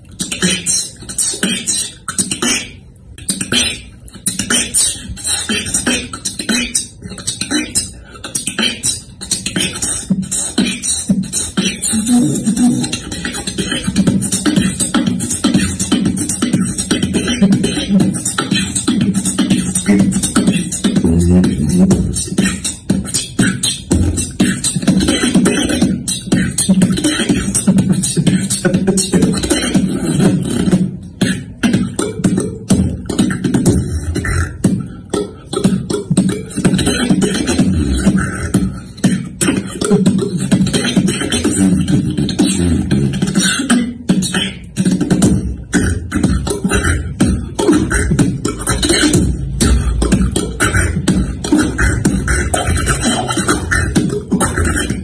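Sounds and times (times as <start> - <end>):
person beatboxing: 0.0 - 55.0.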